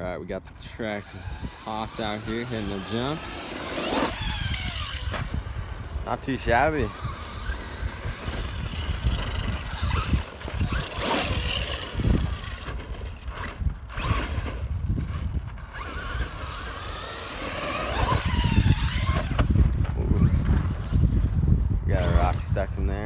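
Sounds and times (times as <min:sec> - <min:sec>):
electric motor whining: 0:00.0 - 0:23.0
wind and handling noise: 0:00.0 - 0:23.0
toy truck hitting ground: 0:00.4 - 0:06.0, 0:06.8 - 0:21.4.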